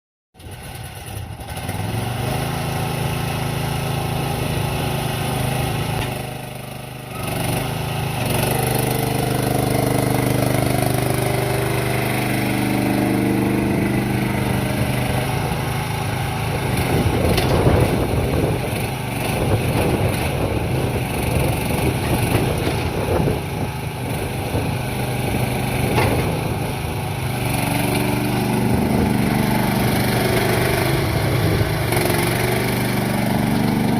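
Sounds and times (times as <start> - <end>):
mini excavator engine running: 0.4 - 33.9.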